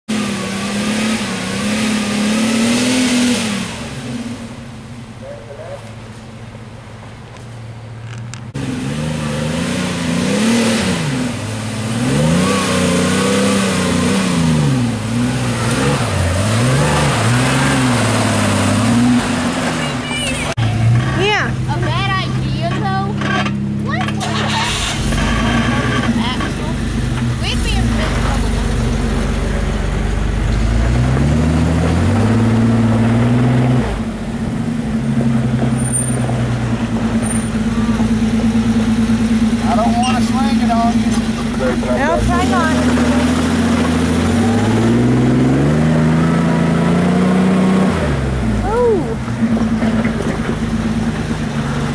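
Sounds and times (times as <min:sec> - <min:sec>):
engine revving under load: 0:00.0 - 0:05.9, 0:08.3 - 0:51.9.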